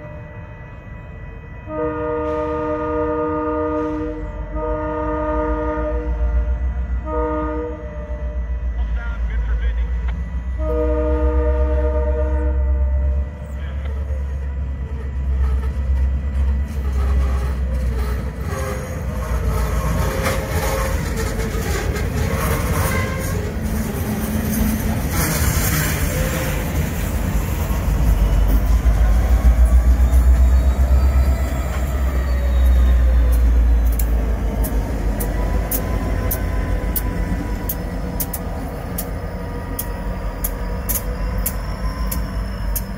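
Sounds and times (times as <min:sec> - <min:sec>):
freight train rumbling: 0:00.0 - 0:42.9.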